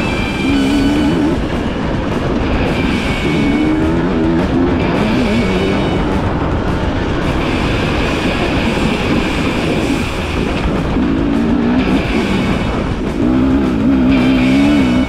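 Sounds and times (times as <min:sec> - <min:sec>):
dirt bike engine revving: 0:00.0 - 0:15.0
rock music with guitar: 0:00.0 - 0:15.0.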